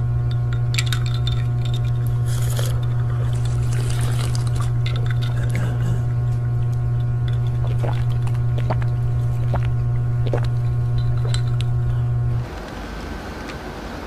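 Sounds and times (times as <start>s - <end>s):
loud low hum: 0.0s - 14.0s.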